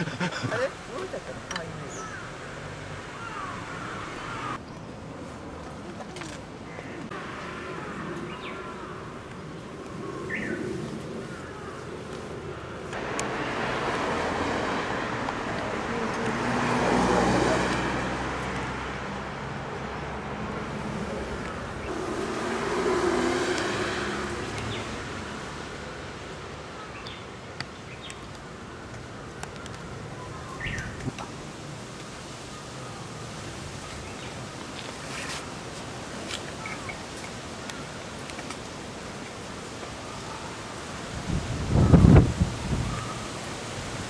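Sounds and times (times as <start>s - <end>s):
steady traffic hum: 0.0s - 44.0s
vehicles passing: 0.0s - 44.0s.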